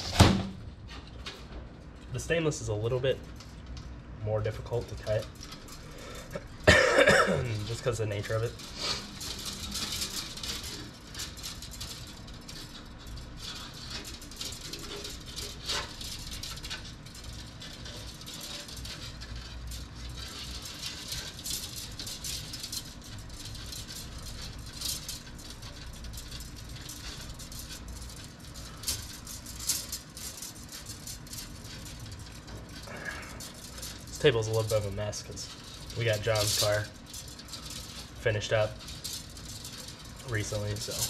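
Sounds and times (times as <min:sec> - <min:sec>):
metal line rattling: 0:04.4 - 0:41.0.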